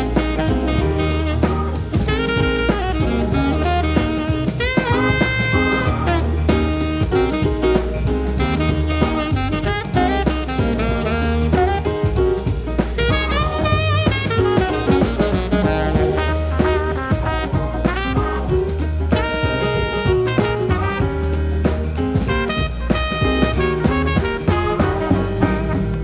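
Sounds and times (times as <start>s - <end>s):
upbeat jazz with saxophone and brass: 0.0s - 26.0s.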